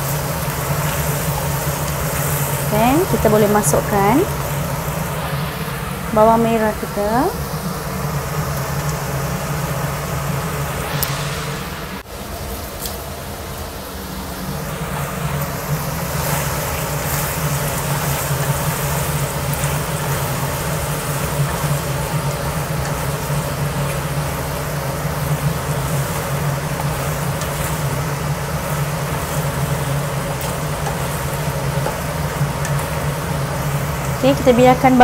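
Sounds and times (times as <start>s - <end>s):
food sizzling in a wok: 0.0s - 35.0s
low kitchen hum: 0.0s - 35.0s.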